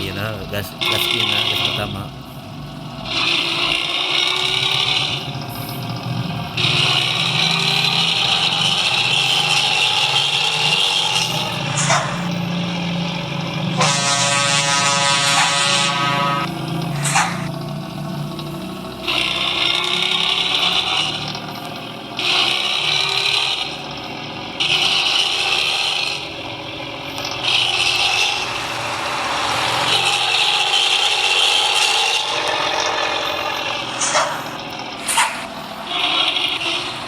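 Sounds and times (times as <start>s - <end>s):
truck diesel engine revving: 0.0s - 37.0s.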